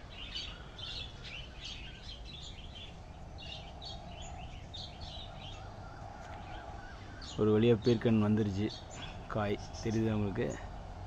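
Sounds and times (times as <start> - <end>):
birds chirping: 0.0 - 11.0
faint steady hum: 0.0 - 11.0
low background rumble: 0.0 - 11.0.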